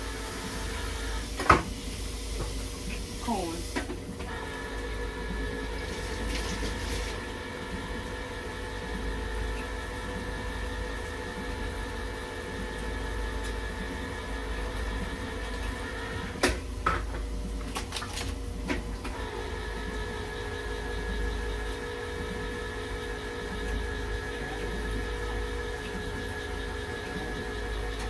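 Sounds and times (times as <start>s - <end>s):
electric can opener motor humming: 0.0s - 28.0s.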